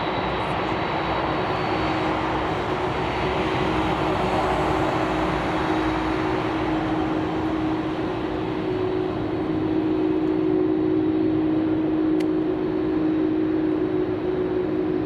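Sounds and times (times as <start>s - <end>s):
high engine whine: 0.0s - 15.0s
jet engines running: 0.0s - 15.0s.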